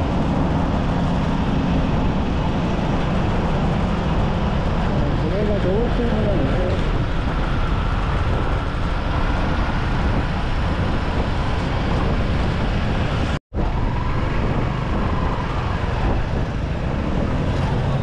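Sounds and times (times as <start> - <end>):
motorcycle wind and road noise: 0.0 - 18.0.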